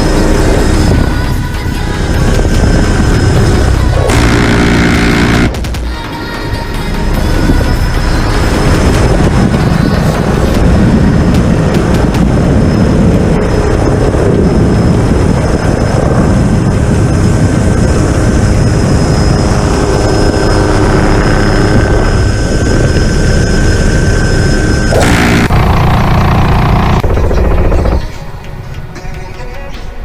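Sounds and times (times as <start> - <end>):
helicopter rotor rumble: 0.0 - 28.6
high turbine whine: 0.0 - 28.9.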